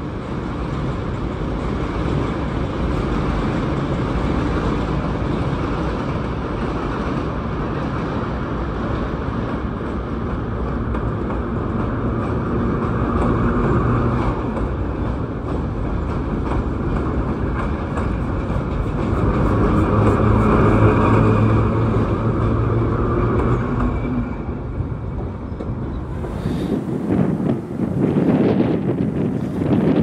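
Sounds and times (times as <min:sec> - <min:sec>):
subway train passing: 0:00.0 - 0:30.0.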